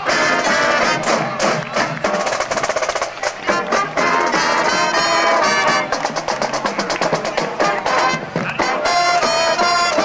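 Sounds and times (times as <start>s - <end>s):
drum line strikes: 0.0s - 10.0s
marching band brass: 0.0s - 10.0s.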